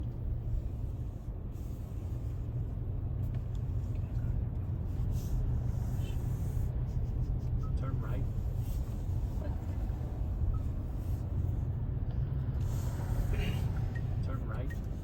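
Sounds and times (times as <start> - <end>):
vehicle rumble from on board: 0.0 - 15.0.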